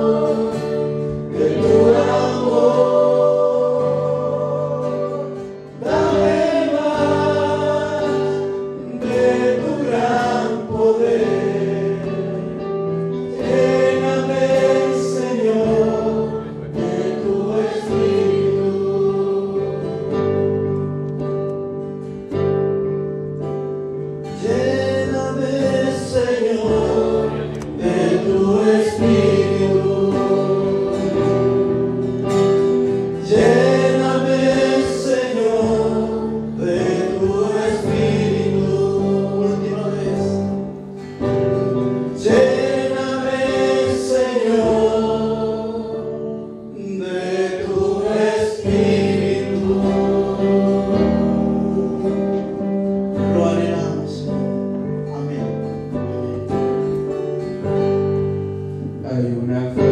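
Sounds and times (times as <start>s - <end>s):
choir singing worship song: 0.0s - 21.2s, 24.2s - 59.9s.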